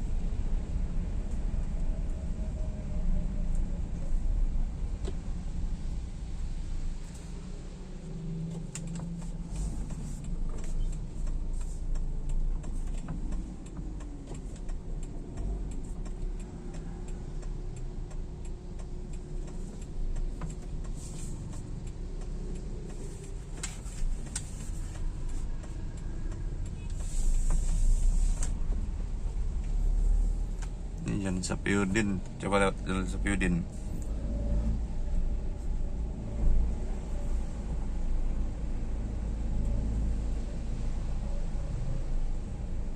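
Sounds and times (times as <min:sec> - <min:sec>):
car engine and road rumble: 0:00.0 - 0:42.9.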